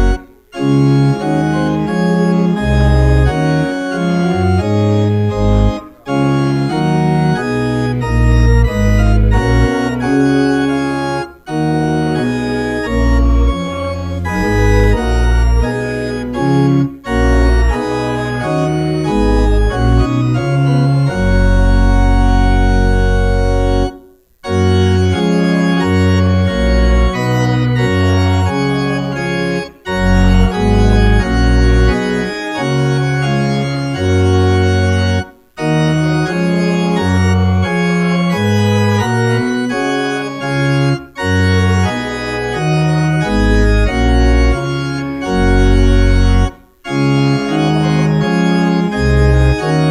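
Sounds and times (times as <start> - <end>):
church organ playing hymn: 0.0 - 49.9.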